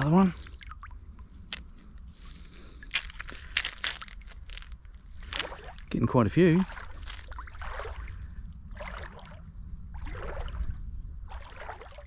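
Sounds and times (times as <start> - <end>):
water sloshing and splashing: 0.0 - 12.0
wind rumble on microphone: 0.0 - 12.0.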